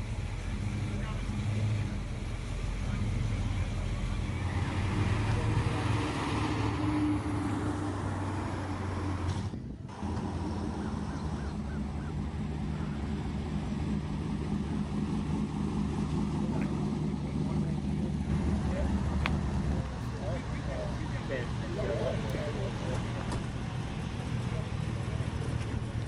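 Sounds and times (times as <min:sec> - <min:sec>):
car engine idling: 0:00.0 - 0:26.0
low engine note: 0:00.0 - 0:26.0.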